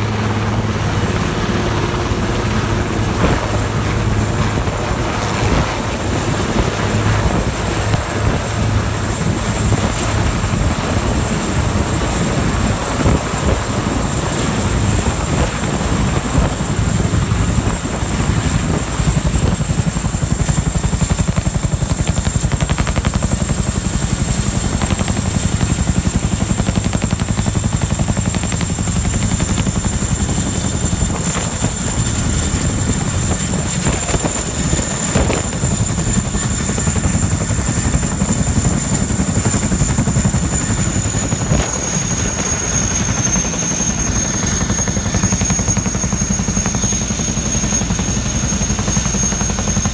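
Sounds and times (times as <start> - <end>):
helicopter rotor blades beating: 0.0 - 49.9
high turbine whine: 0.0 - 49.9.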